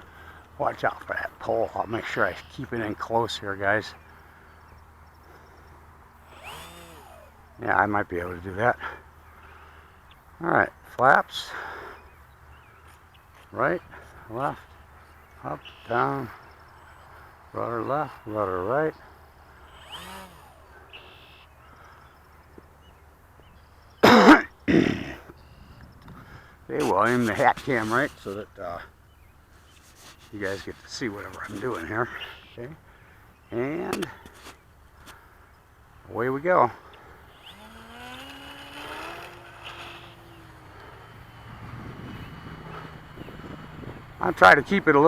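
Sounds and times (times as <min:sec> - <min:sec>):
model airplane motor whining: 0:00.0 - 0:24.0, 0:25.2 - 0:45.0
faint outdoor background noise: 0:00.0 - 0:45.0.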